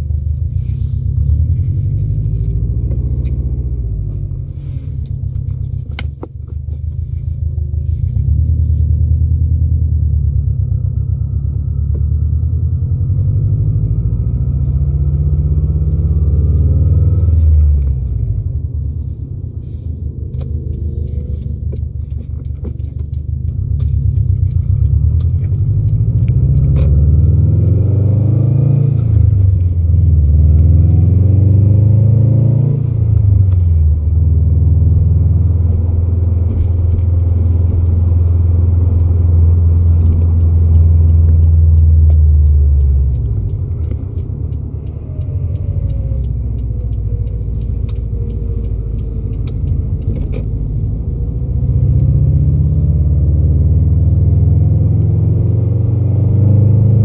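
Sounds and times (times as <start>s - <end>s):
car engine drone from inside cabin: 0.0s - 57.0s.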